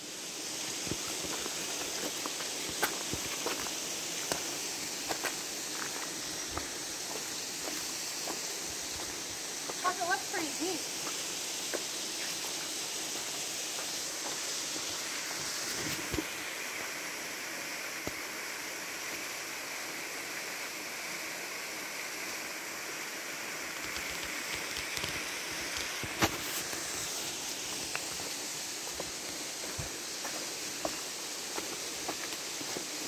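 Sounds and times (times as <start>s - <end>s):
flowing creek water: 0.0s - 33.0s
small waterfall: 0.0s - 33.0s.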